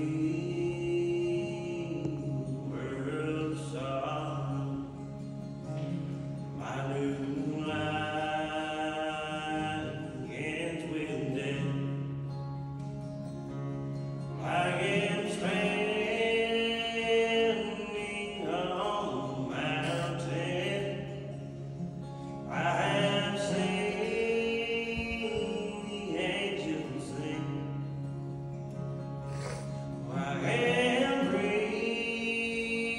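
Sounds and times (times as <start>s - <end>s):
man singing: 0.0s - 5.3s, 6.6s - 12.1s, 14.3s - 21.5s, 22.4s - 28.0s, 29.3s - 32.9s
acoustic guitar: 0.0s - 32.9s.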